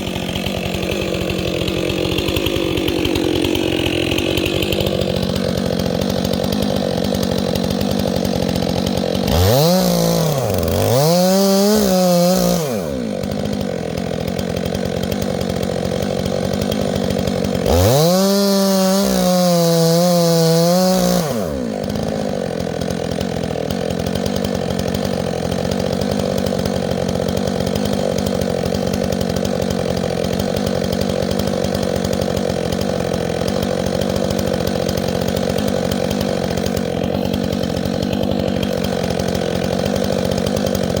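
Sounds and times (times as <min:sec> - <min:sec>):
chainsaw engine idling and revving: 0:00.0 - 0:41.0.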